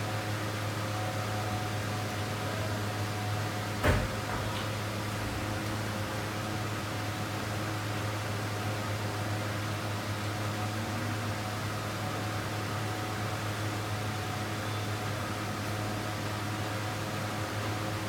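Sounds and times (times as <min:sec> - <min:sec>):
machine hum with hiss: 0:00.0 - 0:18.0.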